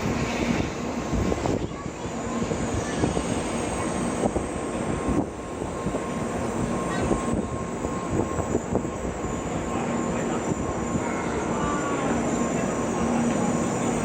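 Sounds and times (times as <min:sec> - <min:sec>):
passengers boarding bustle: 0:00.0 - 0:14.0.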